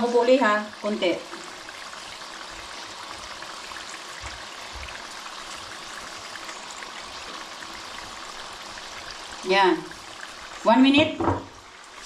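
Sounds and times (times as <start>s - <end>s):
spring rolls sizzling in oil: 0.0s - 12.0s.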